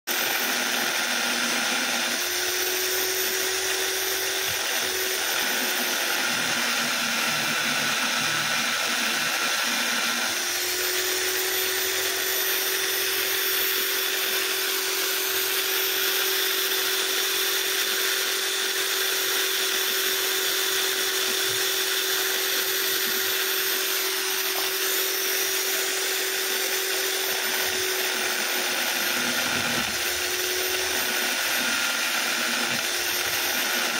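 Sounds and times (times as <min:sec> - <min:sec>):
electric drill motor whine: 0:00.1 - 0:33.9.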